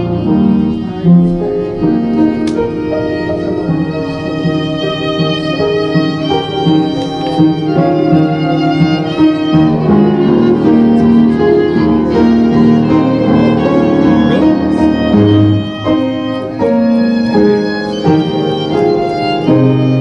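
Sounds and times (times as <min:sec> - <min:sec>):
keyboard accompaniment: 0:00.0 - 0:20.0
violin melody: 0:00.0 - 0:20.0.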